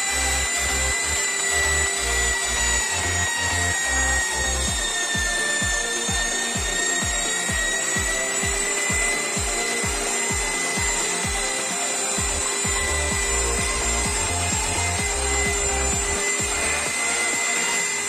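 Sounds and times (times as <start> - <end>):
background music with beat: 0.0 - 18.0
sanding pad grinding paint: 0.0 - 18.0
wall sanding machine whine: 0.0 - 18.0.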